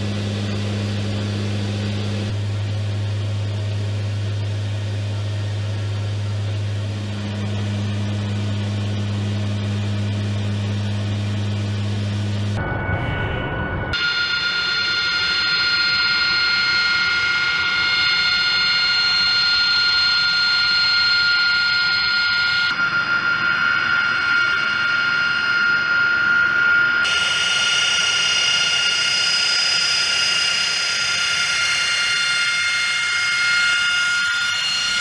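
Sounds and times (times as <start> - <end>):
jet engine turbine whine: 0.0 - 35.0.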